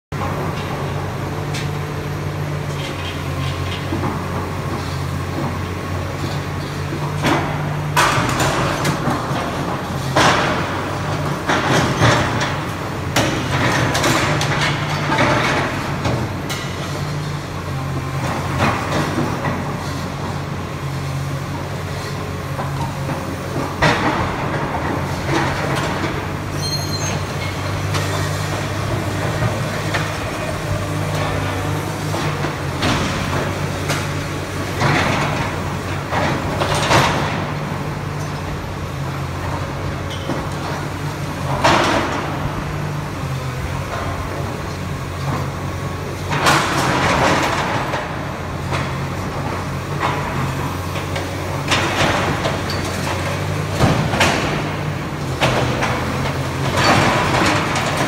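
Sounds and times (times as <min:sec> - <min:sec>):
excavator diesel engine running: 0:00.2 - 0:58.0.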